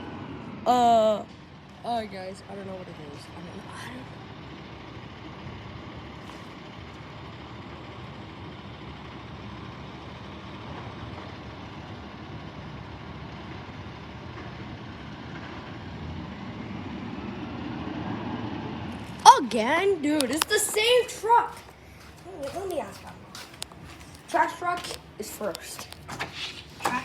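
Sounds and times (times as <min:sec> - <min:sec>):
garbage truck engine running: 0:00.0 - 0:27.0.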